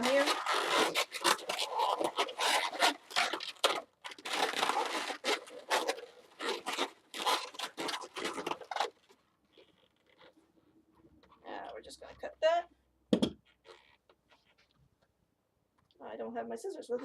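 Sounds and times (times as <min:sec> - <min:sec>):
balloons rubbing and squeaking: 0:00.0 - 0:12.6, 0:13.4 - 0:14.8.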